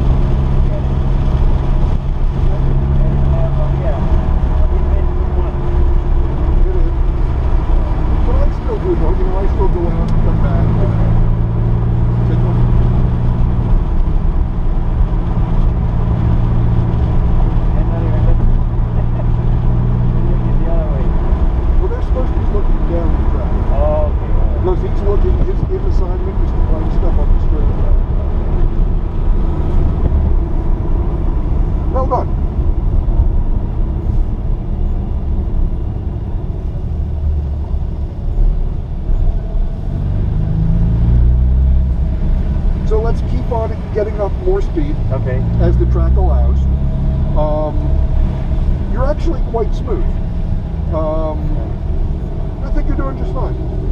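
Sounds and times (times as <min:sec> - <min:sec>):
car engine droning: 0:00.0 - 0:53.9
road and wind noise: 0:00.0 - 0:53.9.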